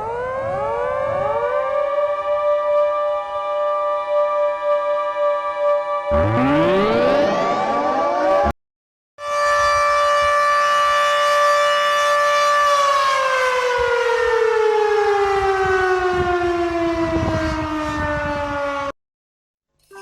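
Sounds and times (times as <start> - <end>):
warning siren: 0.0 - 8.6, 9.2 - 19.0.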